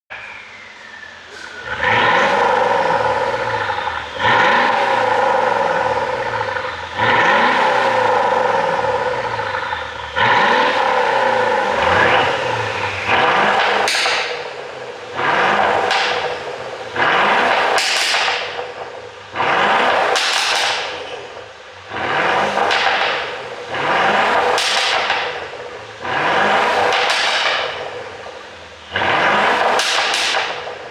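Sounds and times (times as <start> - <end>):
car engine revving: 0.1 - 30.9
exhaust pops and crackles: 1.6 - 30.9.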